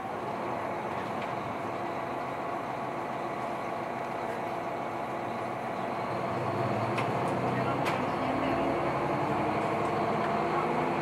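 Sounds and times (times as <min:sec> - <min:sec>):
diesel train running hum: 0:00.0 - 0:11.0.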